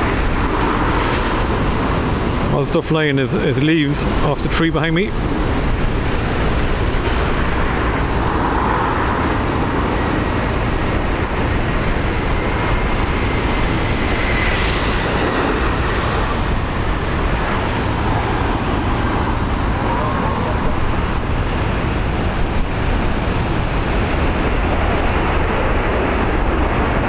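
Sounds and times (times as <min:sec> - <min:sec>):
faint engine whine: 0:00.0 - 0:27.0
jet engines: 0:00.0 - 0:27.0
strong wind buffeting microphone: 0:00.0 - 0:27.0.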